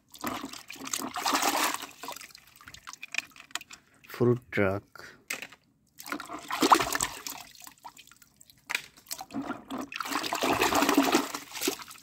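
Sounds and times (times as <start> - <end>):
water sloshing in a tub: 0.0 - 4.2, 5.9 - 12.0.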